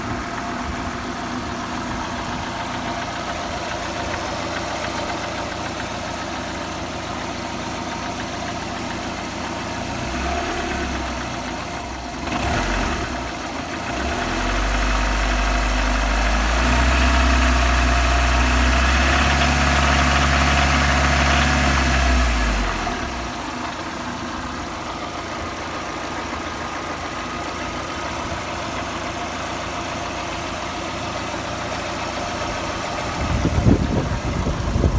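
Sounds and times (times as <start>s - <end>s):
car engine idling: 0.0s - 34.9s
engine knock: 0.0s - 34.9s.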